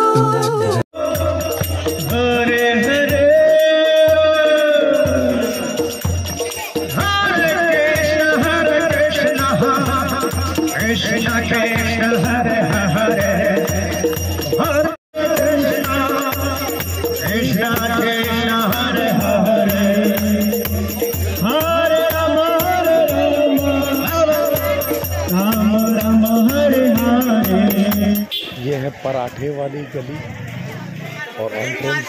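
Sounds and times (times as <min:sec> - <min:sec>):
men singing a devotional chant: 0:01.0 - 0:28.3
hand cymbals jingling: 0:01.0 - 0:28.4.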